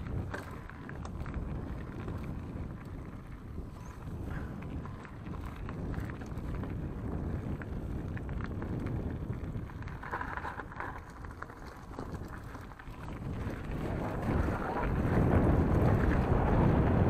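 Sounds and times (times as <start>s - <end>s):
small clicks and rattles: 0.0s - 14.9s
tyres rumbling over gravel: 0.0s - 17.0s
wind on microphone: 0.0s - 17.0s.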